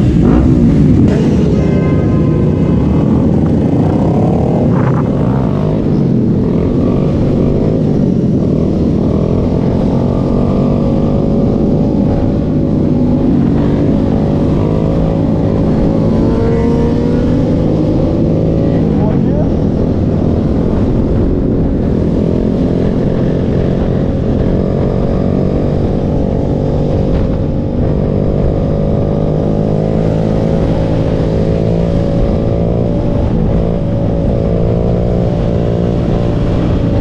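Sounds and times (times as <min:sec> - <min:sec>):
motorcycle engines running: 0:00.0 - 0:37.0.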